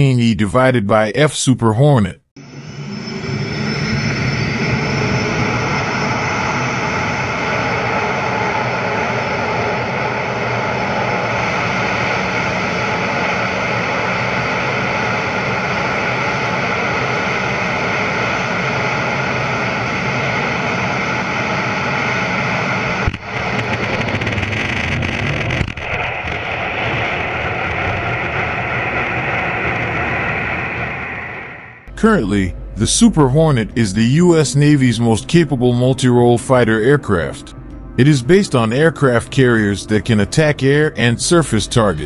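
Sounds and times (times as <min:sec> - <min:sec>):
jet engines at full power: 0:02.4 - 0:42.0.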